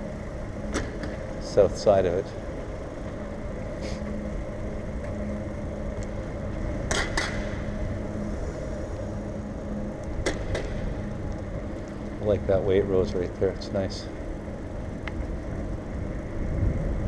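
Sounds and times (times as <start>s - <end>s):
bicycle rolling: 0.0s - 17.0s
low hum: 0.0s - 17.0s.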